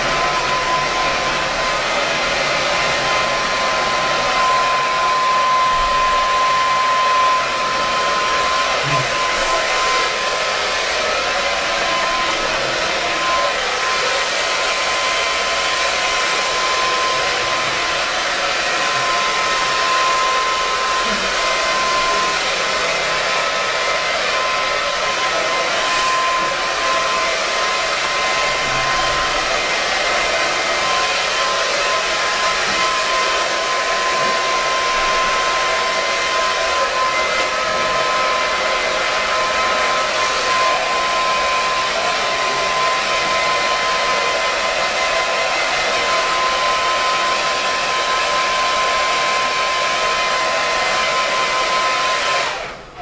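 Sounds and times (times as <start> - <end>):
blow dryer running: 0.0 - 53.0.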